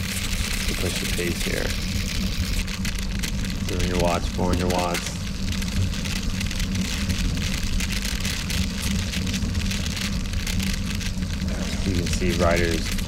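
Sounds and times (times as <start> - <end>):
bike tyres crunching on gravel: 0.0 - 13.0
small clicks and rattles: 0.0 - 13.0.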